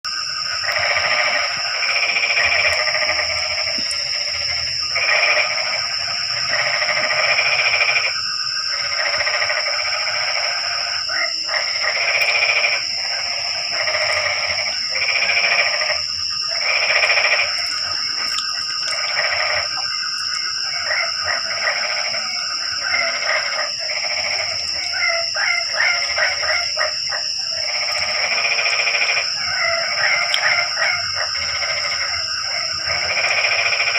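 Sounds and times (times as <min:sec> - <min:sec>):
chorus of frogs calling: 0:00.0 - 0:33.9
steady high-pitched trill: 0:00.1 - 0:33.9.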